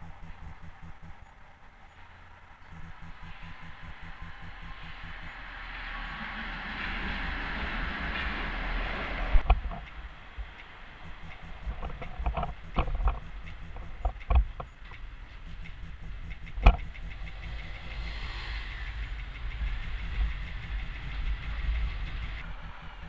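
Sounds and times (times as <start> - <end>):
low tram rumble: 0.0 - 23.0
passing traffic: 0.0 - 23.0
tram wheels clacking over rail joints: 3.2 - 23.0.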